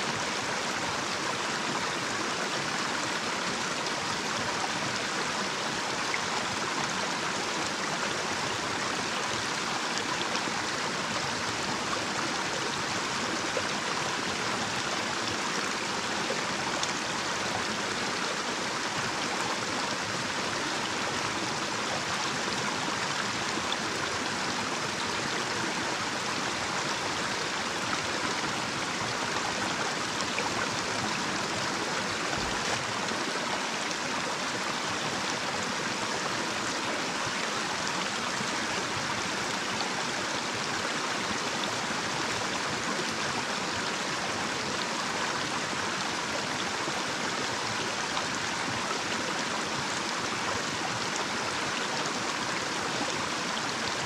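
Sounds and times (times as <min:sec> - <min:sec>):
stream babbling over cascade: 0:00.0 - 0:54.0.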